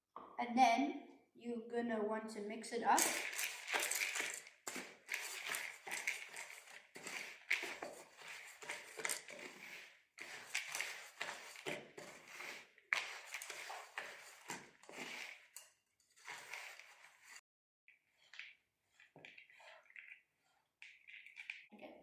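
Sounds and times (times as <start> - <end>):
dry mix stirred in a bowl: 3.0 - 21.9.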